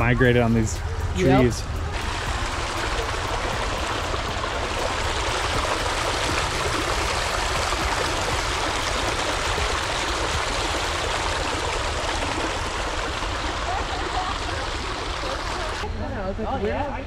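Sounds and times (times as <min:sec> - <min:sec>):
water rushing over stones: 0:01.4 - 0:15.9.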